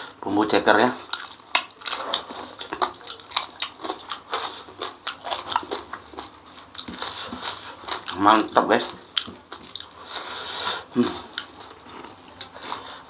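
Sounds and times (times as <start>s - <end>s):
wet chewing and lip-smacking: 0.8s - 13.0s.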